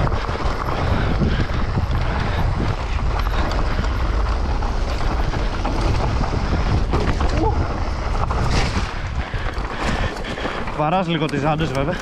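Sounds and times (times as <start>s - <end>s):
bike rattling: 0.0s - 12.0s
tyres crunching on gravel: 0.0s - 12.0s
wind buffeting microphone: 0.0s - 12.0s.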